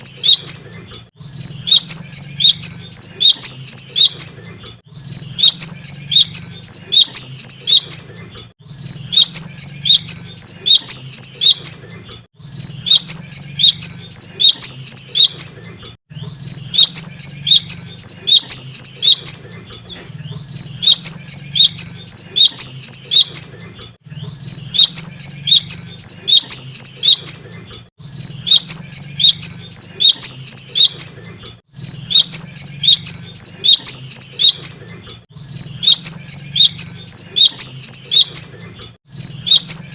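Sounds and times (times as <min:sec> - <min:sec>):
bird singing rapid high notes: 0:00.0 - 0:39.9.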